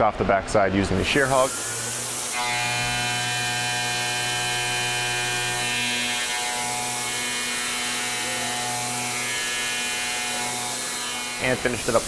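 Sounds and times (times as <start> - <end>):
milling machine cutting metal: 1.0 - 12.0.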